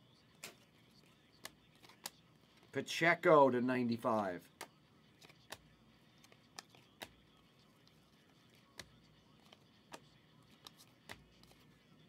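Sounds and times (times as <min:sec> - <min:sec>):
cards being flicked: 0:00.3 - 0:02.7, 0:04.0 - 0:11.8.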